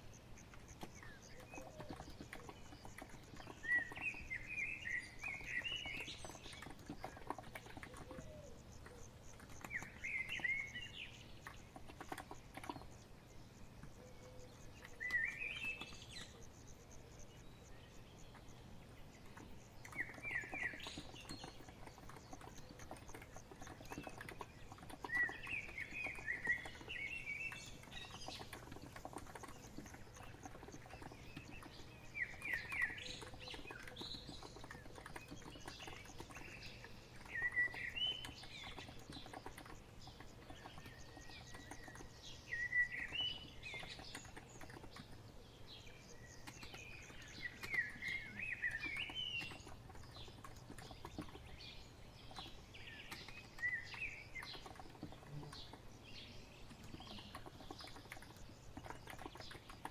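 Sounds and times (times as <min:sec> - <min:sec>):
bird chirping: 0:00.0 - 0:59.9
typing on keyboard: 0:00.4 - 0:16.6, 0:18.2 - 0:59.9.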